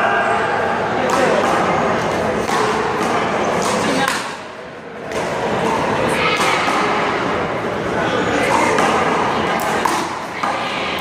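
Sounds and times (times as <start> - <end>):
people chattering: 0.0 - 11.0.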